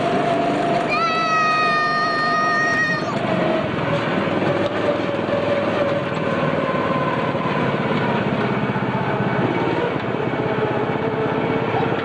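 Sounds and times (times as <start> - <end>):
small engine running with whine: 0.0 - 12.0.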